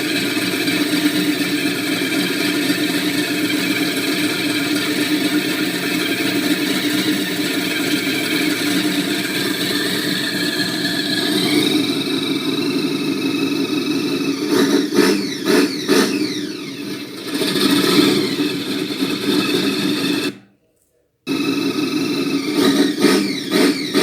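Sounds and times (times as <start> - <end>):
car engine idling and revving: 0.0 - 20.4, 21.3 - 24.0.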